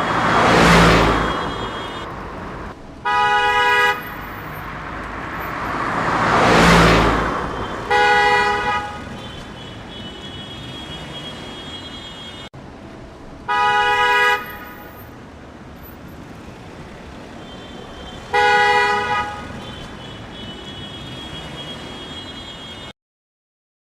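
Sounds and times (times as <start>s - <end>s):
vehicle horn honking: 0.0s - 12.5s, 13.5s - 15.1s, 17.2s - 22.9s.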